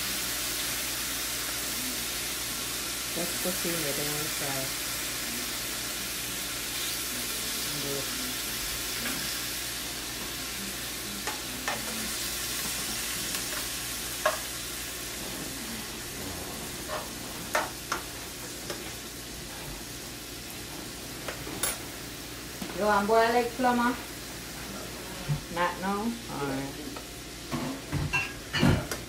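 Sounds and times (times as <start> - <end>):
bacon sizzling in a pan: 0.0 - 29.0.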